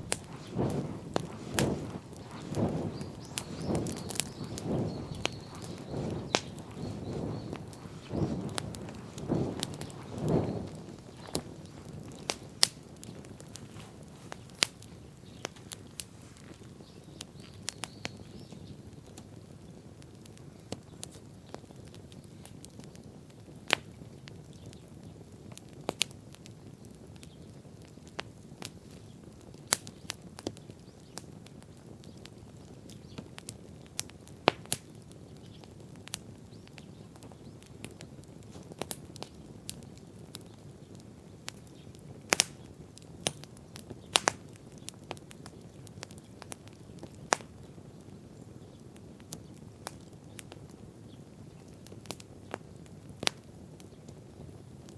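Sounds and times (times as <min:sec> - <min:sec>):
bonfire crackling: 0:00.0 - 0:54.9
low rush of fire: 0:00.0 - 0:54.9.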